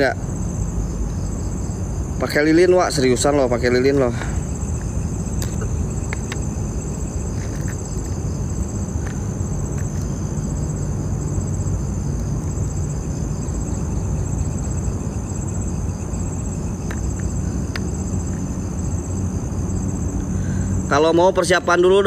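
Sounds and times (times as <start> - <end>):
constant low rumble: 0.0 - 22.0
crickets chirping: 0.0 - 22.0.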